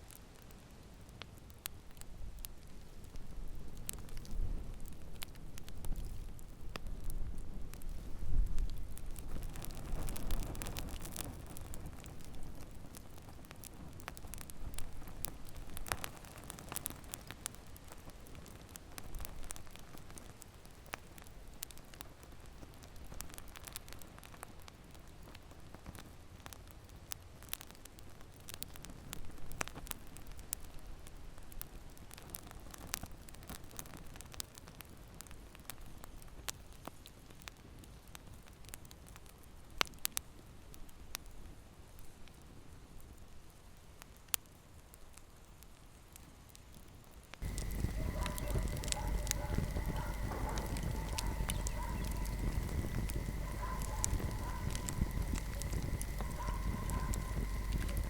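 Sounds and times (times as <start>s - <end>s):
wood fire crackling: 0.0s - 40.2s, 44.1s - 58.0s
soft noise of burning: 0.0s - 58.0s.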